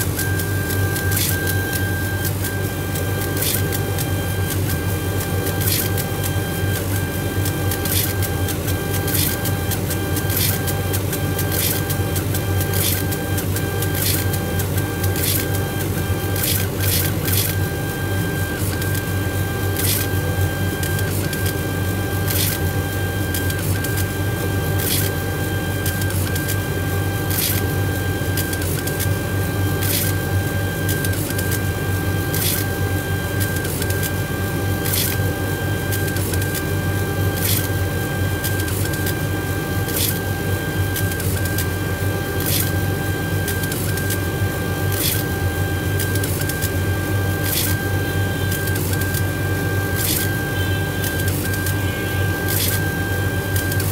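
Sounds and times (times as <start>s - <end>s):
laser engraver motors whining: 0.0s - 53.9s.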